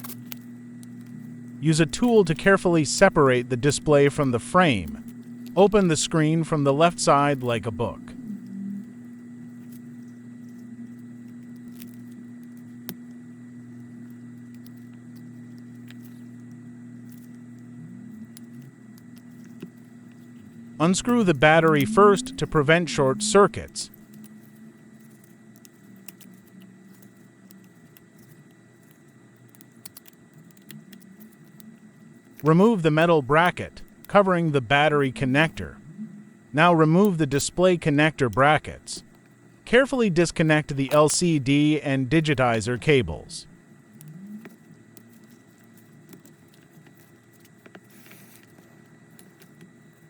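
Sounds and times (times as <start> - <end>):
faint high-pitched whine: 0.0 - 50.0.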